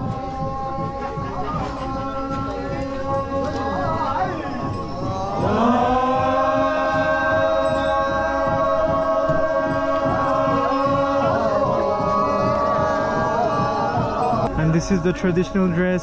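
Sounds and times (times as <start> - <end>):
men chanting together: 0.0 - 14.5.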